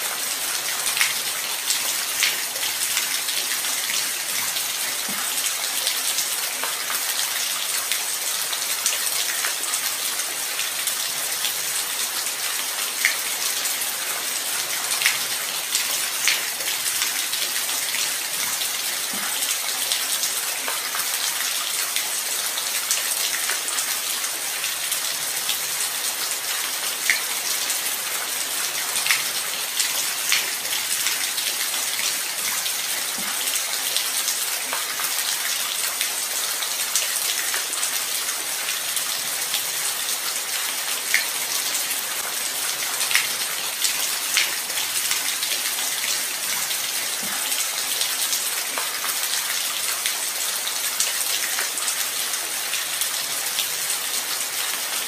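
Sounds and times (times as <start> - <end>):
light rain falling: 0.0 - 55.0.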